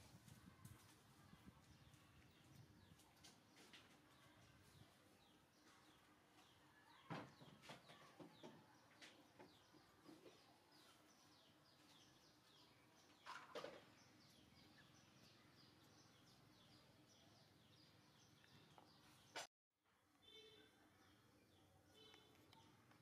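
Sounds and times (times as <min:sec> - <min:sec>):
small bird chirping: 0:00.1 - 0:19.5, 0:20.2 - 0:23.0.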